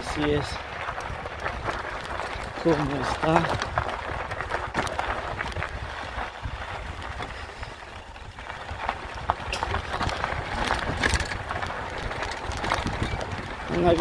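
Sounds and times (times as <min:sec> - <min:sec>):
wind rumble on microphone: 0:00.0 - 0:14.0
footsteps crunching on gravel: 0:00.1 - 0:14.0.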